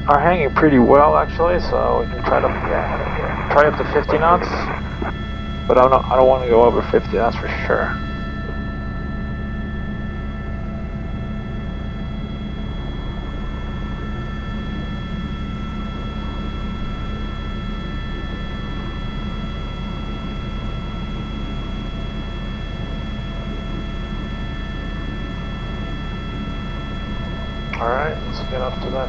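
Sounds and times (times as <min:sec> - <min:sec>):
helicopter rotor and engine rumble: 0:00.0 - 0:29.0
turbine and gearbox whine: 0:00.0 - 0:29.0.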